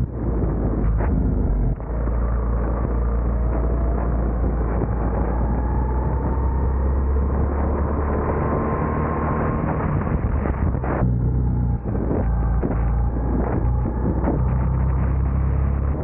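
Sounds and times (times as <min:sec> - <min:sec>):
go-kart engine whine: 0:00.0 - 0:16.0
wind rumble on microphone: 0:00.0 - 0:16.0.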